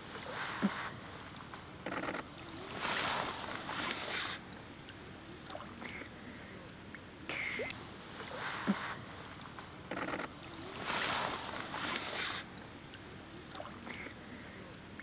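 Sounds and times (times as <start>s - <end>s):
shallow water splashing: 0.0s - 6.4s, 7.4s - 15.0s.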